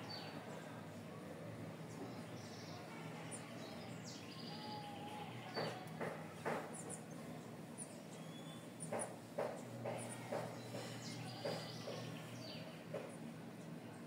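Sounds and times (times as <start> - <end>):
birds chirping: 1.7 - 14.0.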